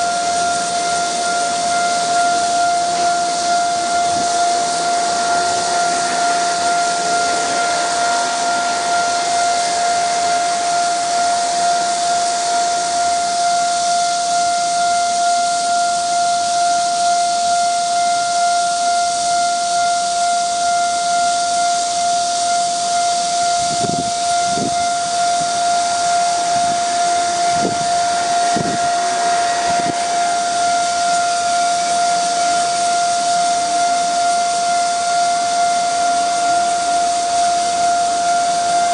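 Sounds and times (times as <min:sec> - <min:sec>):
level crossing warning tone: 0:00.0 - 0:38.9
steady high hiss: 0:00.0 - 0:38.9.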